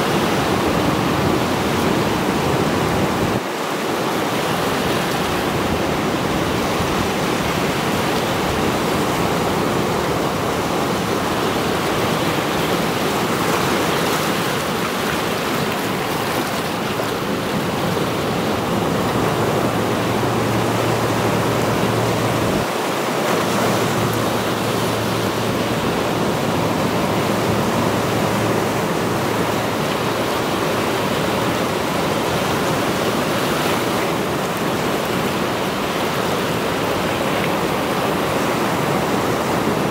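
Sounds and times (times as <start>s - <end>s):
sea waves breaking on rocks: 0.0s - 39.9s.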